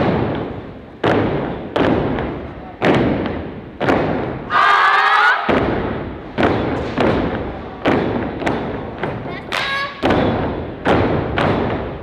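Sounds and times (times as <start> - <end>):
heavy stomps on a stage: 0.0 - 4.5, 5.4 - 12.0.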